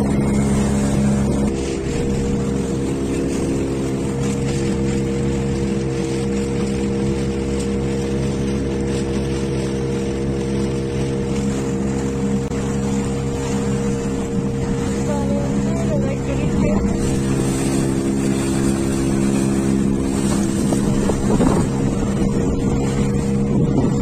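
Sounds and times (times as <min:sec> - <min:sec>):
motorboat engine running: 0:00.0 - 0:24.0
water rushing: 0:00.0 - 0:24.0
wind: 0:00.0 - 0:24.0.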